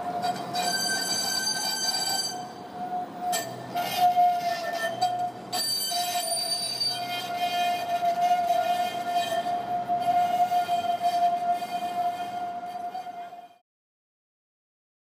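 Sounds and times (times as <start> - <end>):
tram wheels squealing: 0.0 - 13.6.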